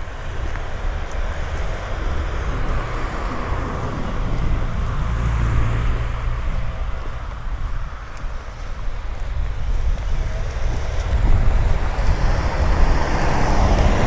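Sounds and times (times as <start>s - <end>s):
car passing on wet street: 0.0s - 14.0s
steady rain hiss: 0.0s - 14.0s.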